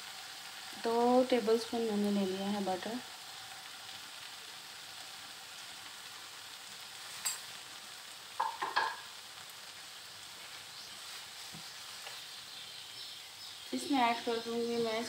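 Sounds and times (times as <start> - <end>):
butter sizzling in frying pan: 0.0 - 15.0.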